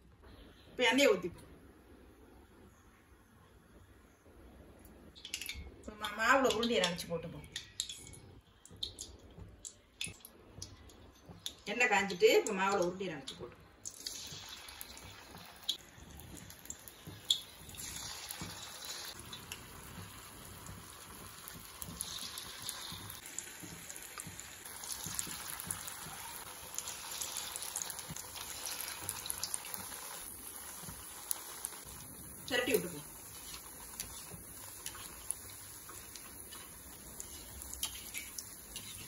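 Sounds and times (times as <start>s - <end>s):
batter balls sizzling in oil: 5.2s - 39.0s.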